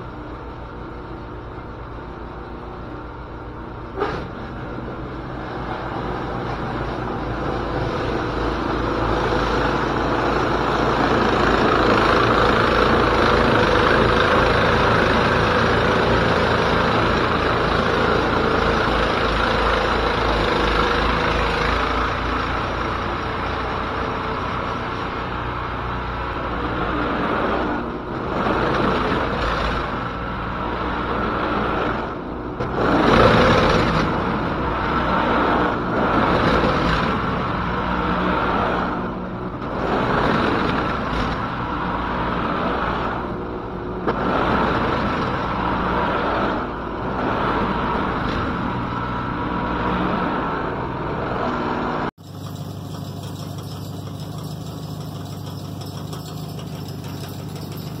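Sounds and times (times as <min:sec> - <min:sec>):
snowblower engine running: 0:05.0 - 0:48.6, 0:52.2 - 0:58.0.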